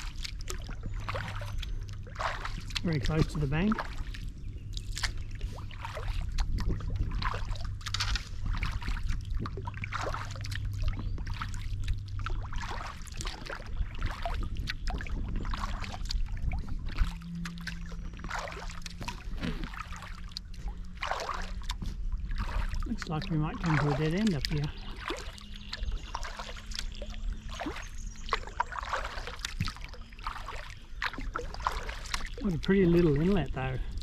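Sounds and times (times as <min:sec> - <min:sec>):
paddle splashing and dripping: 0:00.0 - 0:34.0.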